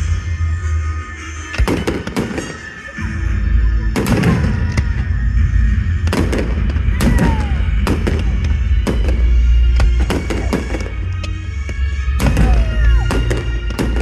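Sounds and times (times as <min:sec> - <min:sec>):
firework whistle: 0:00.0 - 0:14.0
loud music with heavy bass: 0:00.0 - 0:14.0
fireworks bangs and crackles: 0:01.4 - 0:03.0, 0:03.8 - 0:14.0.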